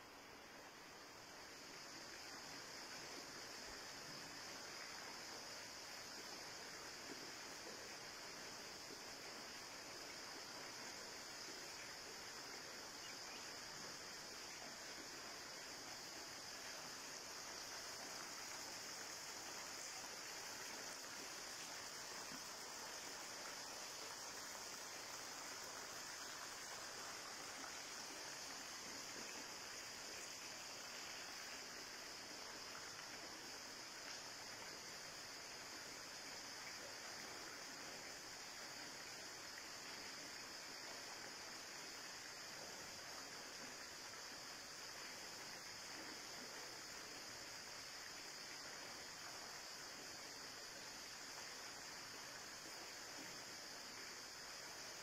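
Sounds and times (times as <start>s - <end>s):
insect chorus buzzing: 0.0s - 55.0s
soft background hiss: 0.0s - 55.0s.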